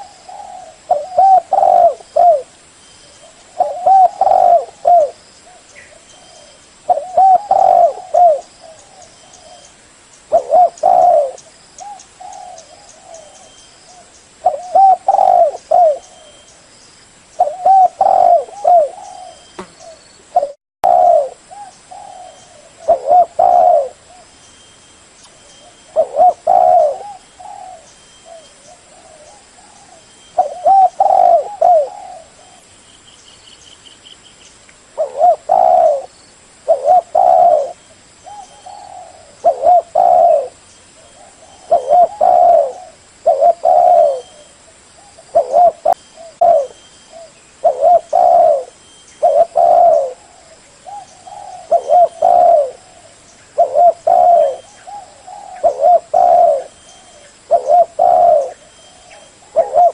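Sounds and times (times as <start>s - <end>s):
dove cooing: 0.0s - 9.7s, 10.3s - 16.5s, 17.4s - 24.3s, 25.5s - 32.7s, 35.0s - 59.9s.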